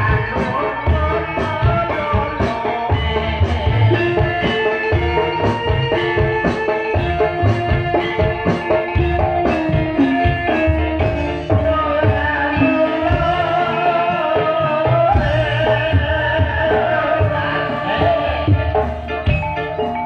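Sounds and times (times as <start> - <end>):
metallophones and gongs melody: 0.0 - 20.0.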